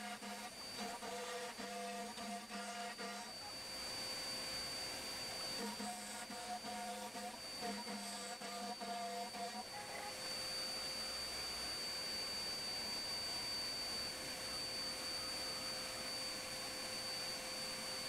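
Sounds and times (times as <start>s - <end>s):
high-pitched whine: 0.0s - 18.0s
router spindle and vacuum noise: 0.0s - 18.0s.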